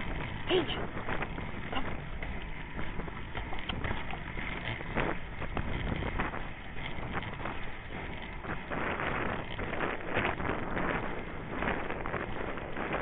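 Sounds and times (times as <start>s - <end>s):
skate wheels rolling on asphalt: 0.0s - 13.0s
wind buffeting microphone: 0.0s - 13.0s.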